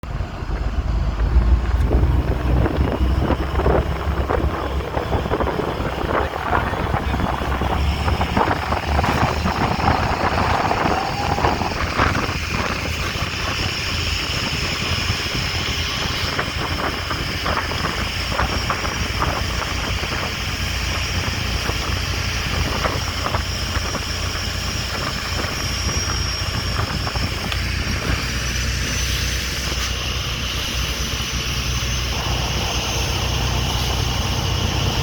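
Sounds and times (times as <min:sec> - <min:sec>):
motorboat engine running: 0:00.0 - 0:35.0
wind buffeting microphone: 0:00.0 - 0:35.0
high steady whine: 0:00.1 - 0:35.0.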